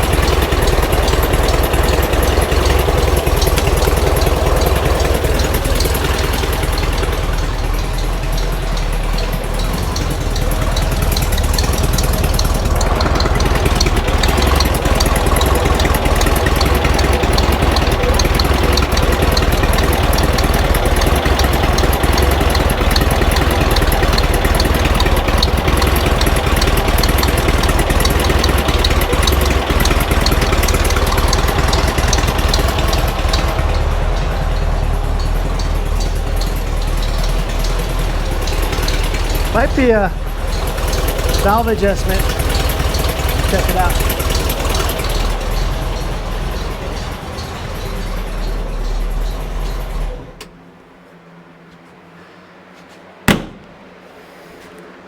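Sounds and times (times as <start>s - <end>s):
fast ticking: 0.0s - 50.5s
engine idling: 0.0s - 50.9s, 53.3s - 54.0s.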